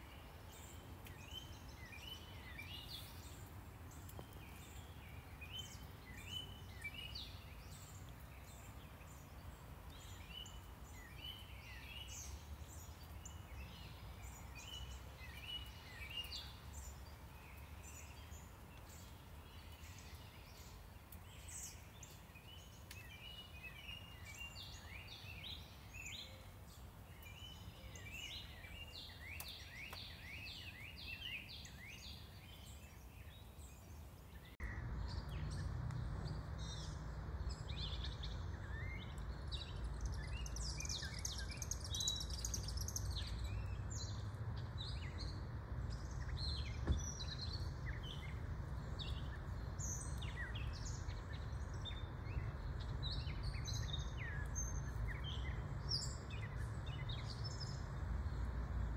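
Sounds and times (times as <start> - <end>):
distant traffic rumble: 0.0 - 58.9
songbirds chirping: 0.0 - 58.9.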